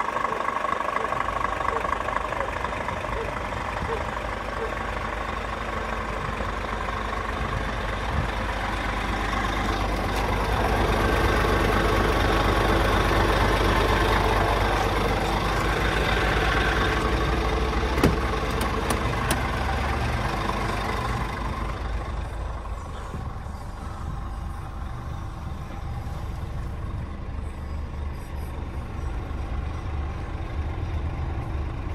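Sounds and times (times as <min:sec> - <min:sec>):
diesel truck engine idling: 0:00.0 - 0:31.9.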